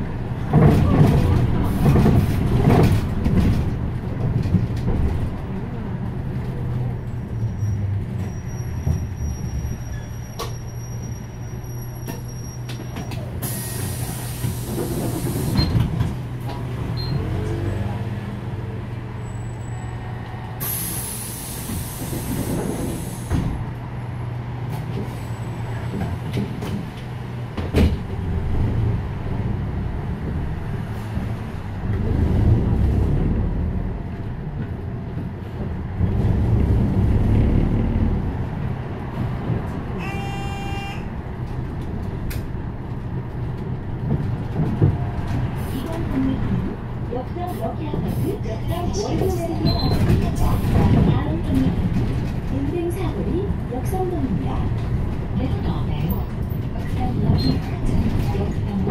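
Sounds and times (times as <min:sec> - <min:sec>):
bus engine hum: 0:00.0 - 0:58.9
road noise: 0:00.0 - 0:58.9.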